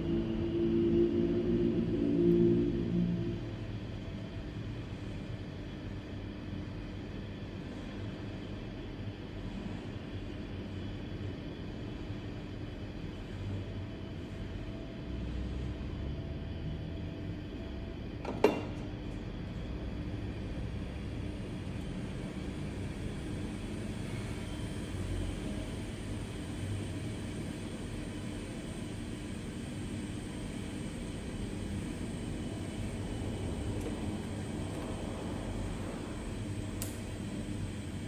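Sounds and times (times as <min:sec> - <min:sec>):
low background hum and rumble: 0:00.0 - 0:38.0.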